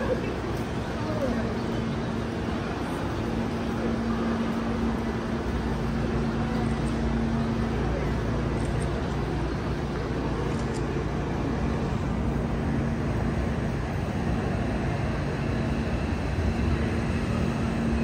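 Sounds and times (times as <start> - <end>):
electric train rumbling and humming: 0.0 - 18.0.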